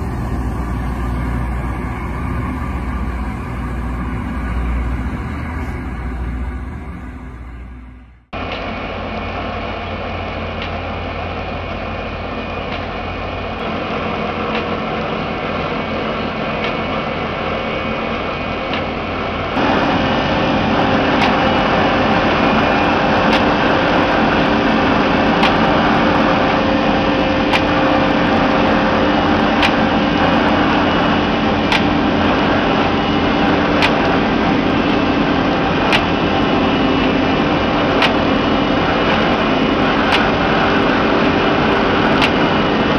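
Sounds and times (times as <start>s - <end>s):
rail grinding machine: 0.0s - 42.9s.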